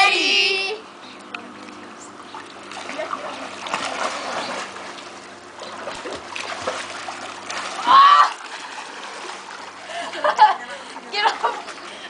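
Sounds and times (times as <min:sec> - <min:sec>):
pool water splashing: 0:01.3 - 0:12.0.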